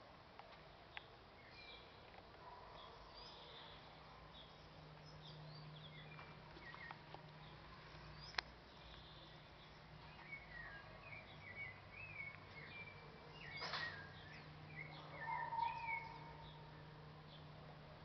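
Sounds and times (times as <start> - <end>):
small birds chirping: 0.5 - 18.0.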